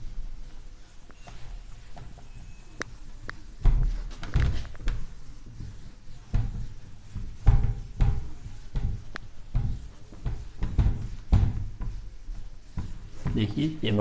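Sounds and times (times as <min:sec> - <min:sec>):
cloth rubbing on whiteboard: 0:00.0 - 0:14.0.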